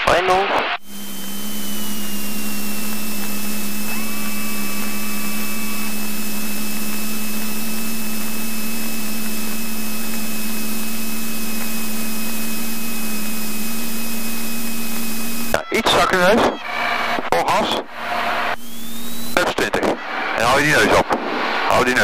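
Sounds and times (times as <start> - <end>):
airplane engine and propeller drone: 0.0 - 22.0.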